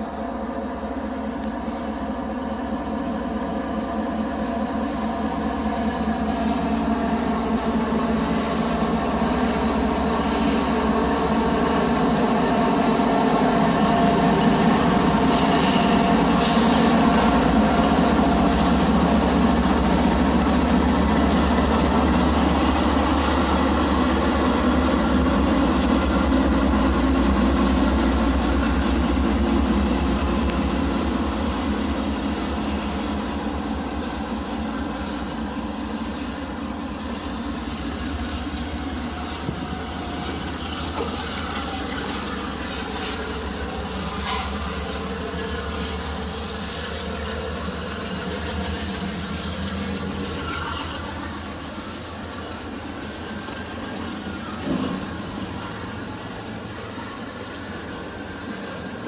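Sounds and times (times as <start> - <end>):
diesel locomotives passing: 0.0 - 59.0.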